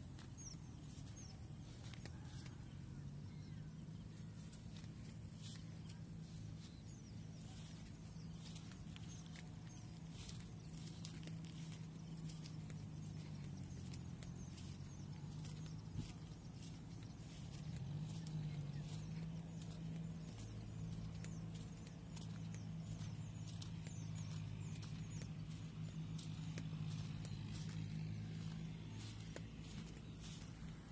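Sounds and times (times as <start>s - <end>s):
flip-flop footsteps on dirt: 0.0s - 30.9s
steady low hum: 0.0s - 30.9s.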